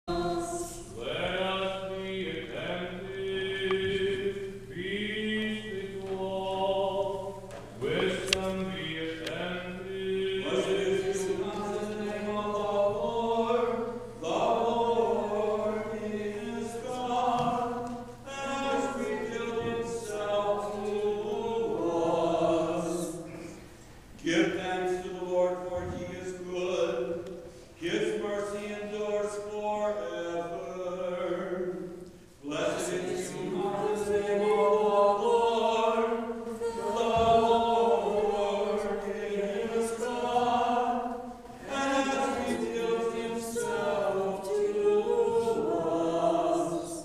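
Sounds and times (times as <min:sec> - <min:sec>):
congregation singing a chant: 0:00.1 - 0:47.0.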